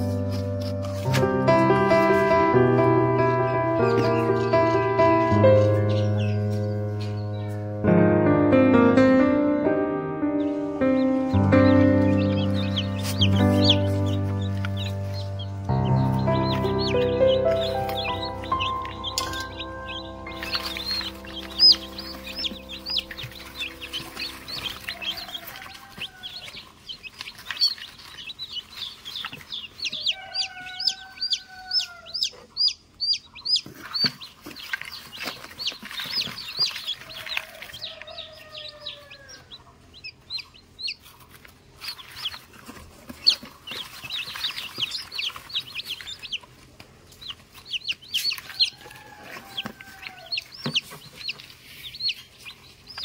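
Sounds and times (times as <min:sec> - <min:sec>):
chicks peeping: 0:00.0 - 0:07.9, 0:08.8 - 0:53.0.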